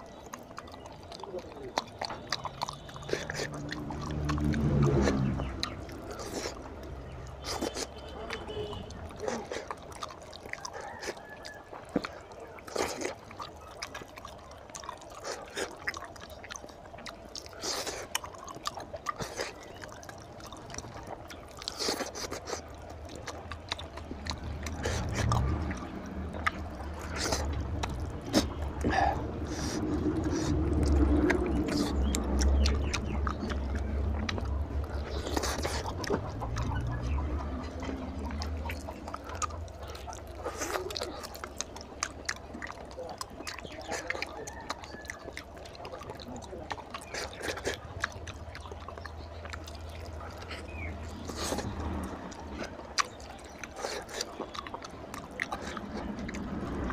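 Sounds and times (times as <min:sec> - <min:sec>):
chewing: 0:00.0 - 0:56.9.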